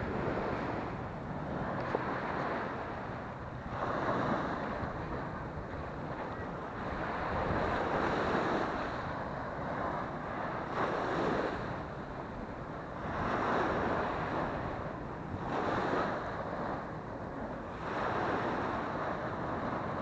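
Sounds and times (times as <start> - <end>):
small waves breaking on sand: 0.0 - 20.0
wind buffeting microphone: 0.0 - 20.0.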